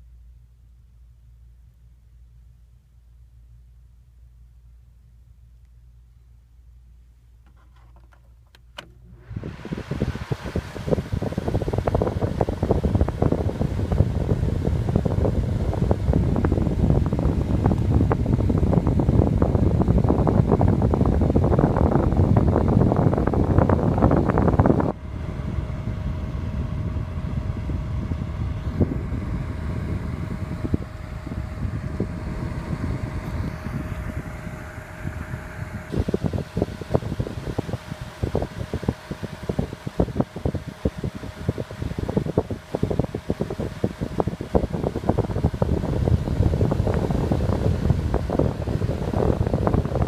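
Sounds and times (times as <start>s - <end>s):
faint steady hum: 0.0s - 50.0s
box fan air rushing: 7.3s - 50.0s.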